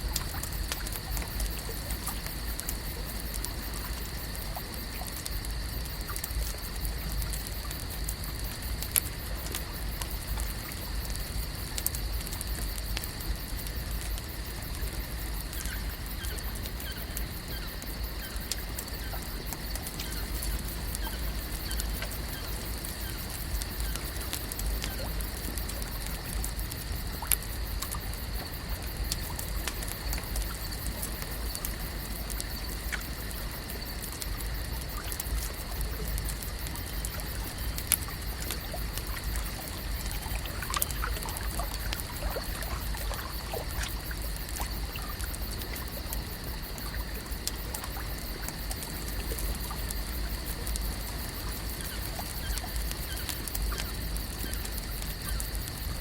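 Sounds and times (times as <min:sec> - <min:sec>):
water trickling and lapping: 0:00.0 - 0:56.0.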